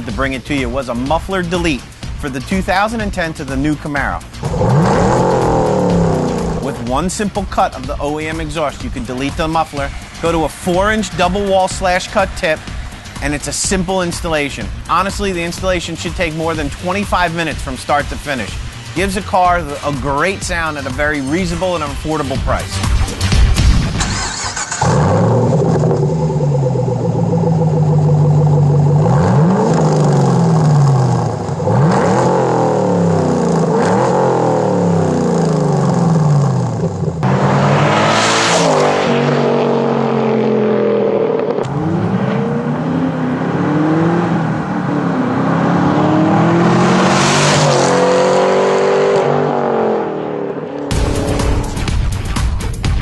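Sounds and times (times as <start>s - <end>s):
car engine revving: 2.8s - 52.4s.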